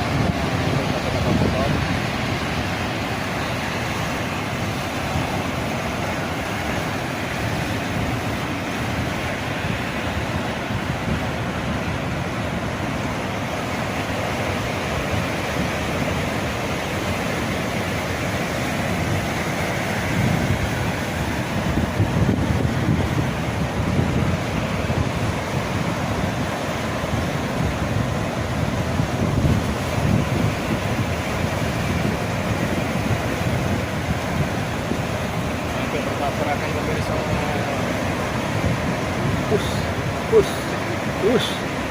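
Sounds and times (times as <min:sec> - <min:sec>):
sea waves: 0:00.0 - 0:41.9
strong wind on microphone: 0:00.0 - 0:41.9.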